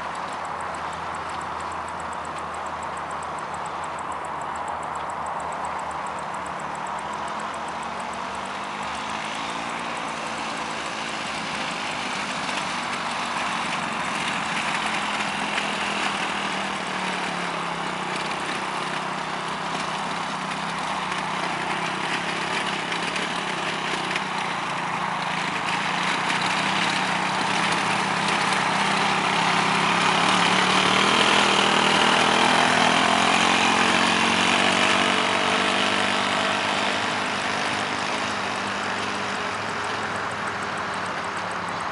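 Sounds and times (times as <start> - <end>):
quad bike engine running: 0.0 - 41.9.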